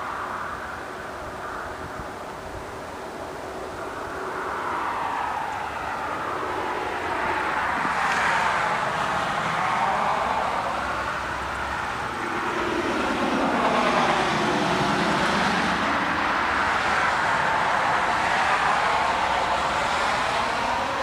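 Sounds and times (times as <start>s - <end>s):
road traffic rushing: 0.0s - 21.0s
vehicles passing: 0.0s - 21.0s.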